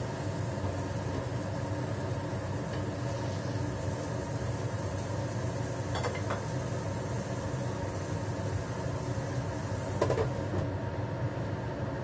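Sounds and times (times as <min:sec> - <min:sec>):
tofu frying in a pan: 0:00.0 - 0:10.5
low kitchen hum: 0:00.0 - 0:12.0.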